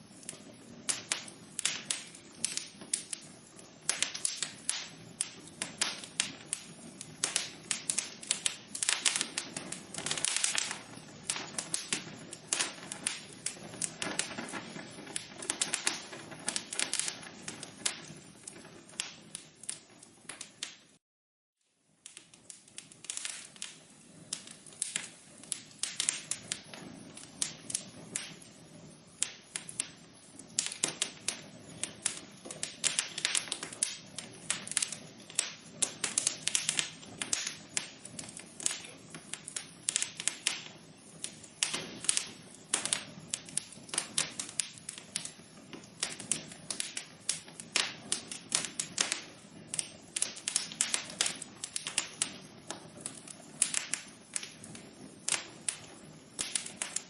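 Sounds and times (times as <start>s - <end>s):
fire crackling in fireplace: 0.0s - 21.0s, 21.6s - 57.0s.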